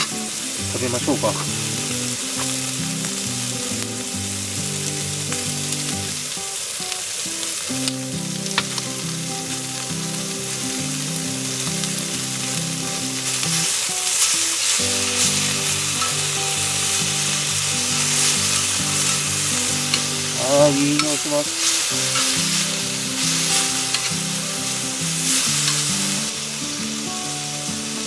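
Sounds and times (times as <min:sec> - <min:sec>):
meat sizzling on a griddle: 0:00.0 - 0:28.0
soft background music: 0:00.0 - 0:28.0.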